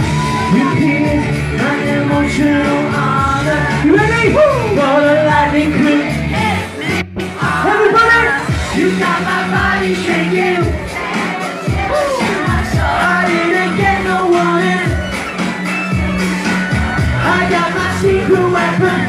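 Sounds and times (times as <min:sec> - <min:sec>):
pop backing track: 0:00.0 - 0:19.0
people singing: 0:00.2 - 0:15.4, 0:16.7 - 0:19.0.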